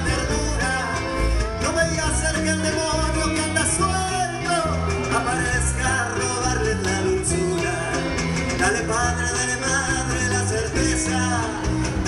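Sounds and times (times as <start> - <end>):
acoustic guitar: 0.0 - 12.0
cajon drum beat: 0.0 - 12.0.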